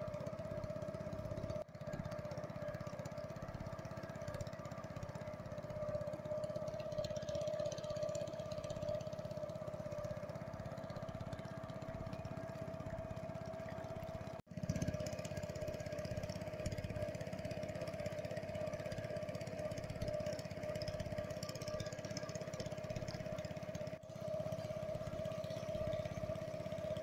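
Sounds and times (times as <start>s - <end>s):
small outboard boat engine: 0.0s - 27.0s.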